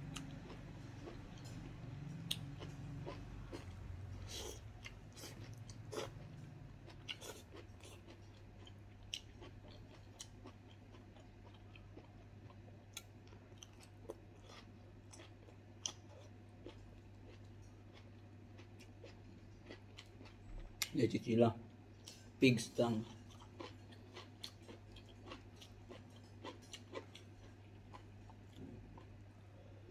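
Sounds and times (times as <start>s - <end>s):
person chewing crunchy vegetables: 0.0s - 21.0s, 22.8s - 29.8s.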